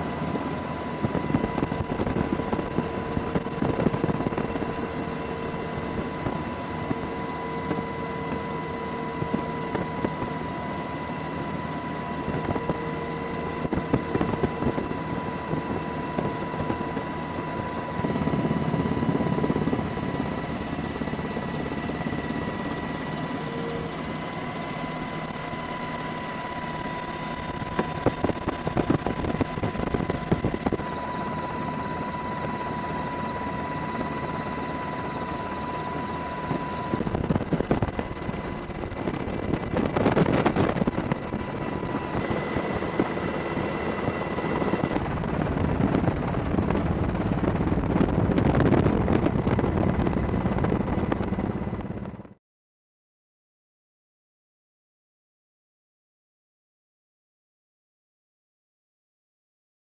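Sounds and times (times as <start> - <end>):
helicopter rotor and engine rush: 0.0 - 52.4
high whine: 0.0 - 52.4.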